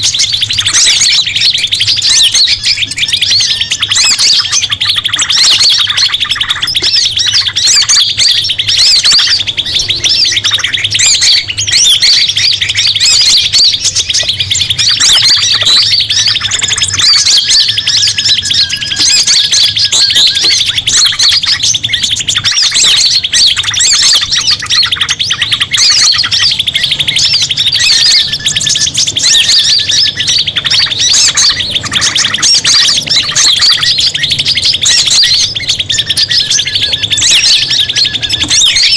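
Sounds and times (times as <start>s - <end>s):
chorus of birds chirping: 0.0s - 38.9s.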